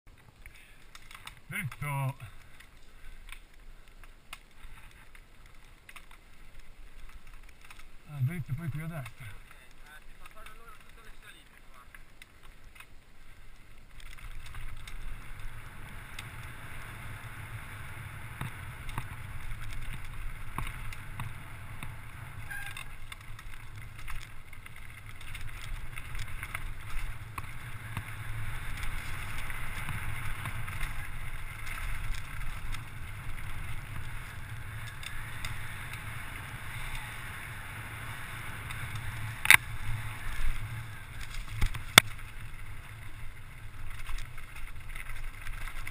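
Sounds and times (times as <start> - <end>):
bike rattles and clicks: 0.1 - 45.9
tyres rolling over gravel: 0.1 - 45.9.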